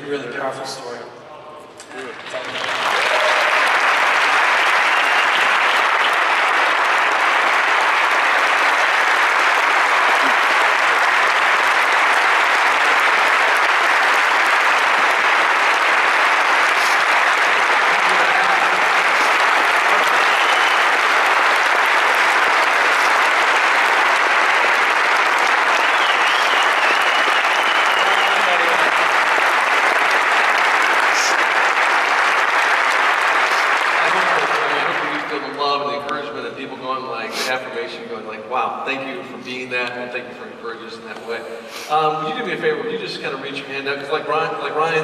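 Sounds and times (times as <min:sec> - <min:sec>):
large audience applauding: 0:01.9 - 0:37.9, 0:43.2 - 0:45.0.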